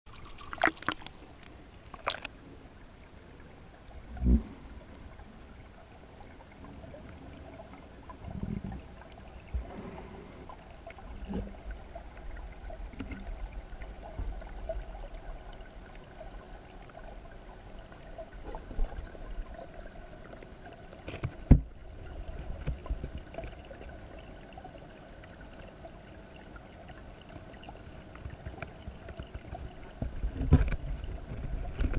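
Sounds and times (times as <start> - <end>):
faint steady hum: 0.1 - 31.9
underwater water rumble: 0.4 - 31.9.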